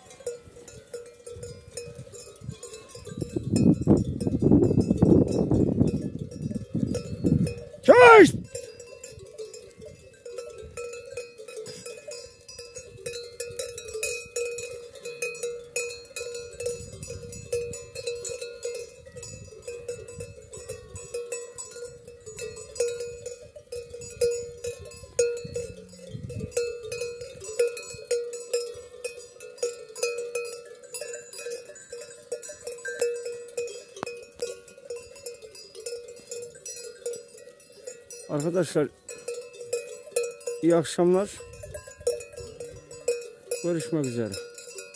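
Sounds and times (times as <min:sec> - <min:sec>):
sheep bells clanking: 0:00.0 - 0:44.9.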